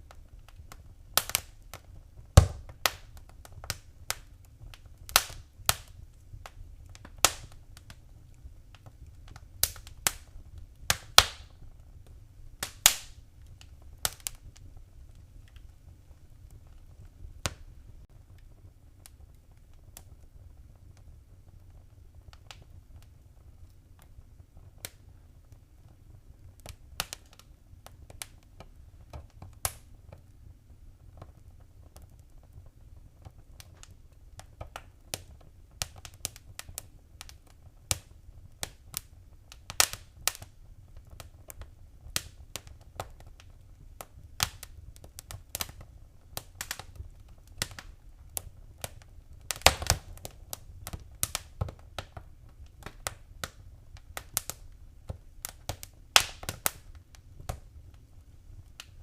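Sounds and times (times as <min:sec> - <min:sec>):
low rumble of flame: 0:00.0 - 0:59.0
wood fire snapping and popping: 0:00.0 - 0:59.0.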